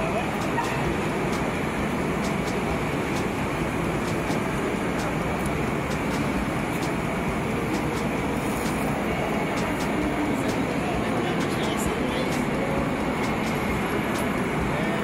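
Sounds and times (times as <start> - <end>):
air roar in large hall: 0.0 - 15.0.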